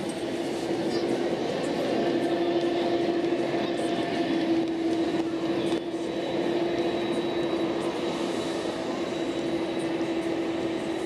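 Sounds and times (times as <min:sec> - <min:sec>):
jet airliner engine hum: 0:00.0 - 0:11.0.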